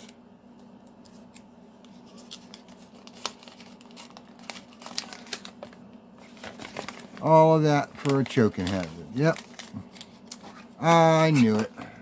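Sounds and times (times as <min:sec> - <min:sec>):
paper crinkling: 0:01.3 - 0:11.8.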